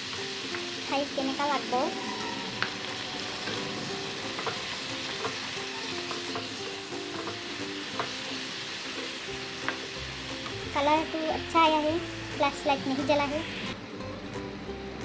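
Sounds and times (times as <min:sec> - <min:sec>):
food sizzling in oil: 0:00.0 - 0:13.8.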